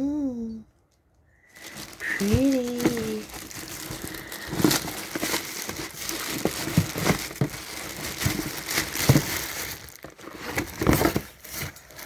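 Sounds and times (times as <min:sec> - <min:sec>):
packaging crinkling and rustling: 0:01.4 - 0:12.0.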